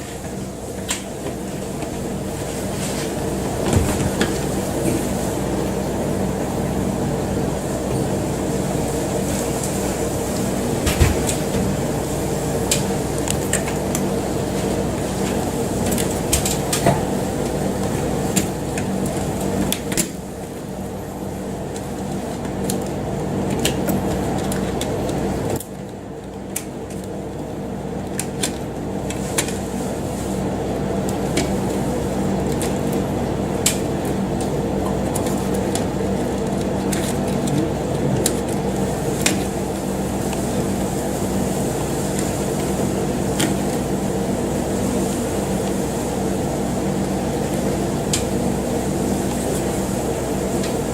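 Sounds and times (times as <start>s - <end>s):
machine humming: 0.0s - 50.9s.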